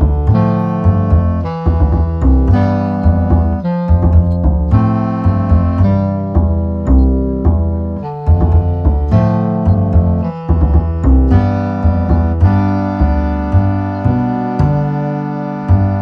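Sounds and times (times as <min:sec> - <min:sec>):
bass line: 0:00.0 - 0:16.0
piano-like keyboard music: 0:00.0 - 0:16.0.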